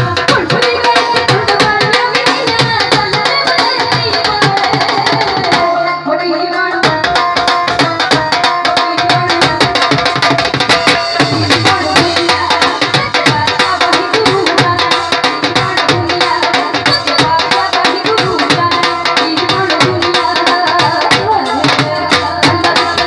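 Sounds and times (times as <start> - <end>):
tabla fast rhythm: 0.0 - 23.0.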